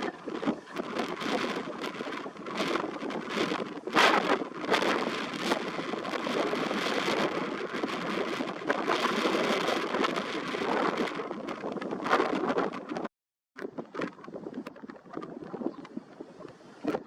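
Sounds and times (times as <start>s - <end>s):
gusty wind through reeds: 0.0s - 17.0s.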